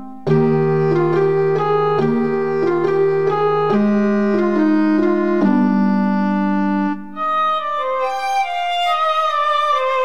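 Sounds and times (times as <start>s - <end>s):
electronic keyboard organ-like melody: 0.0s - 9.5s.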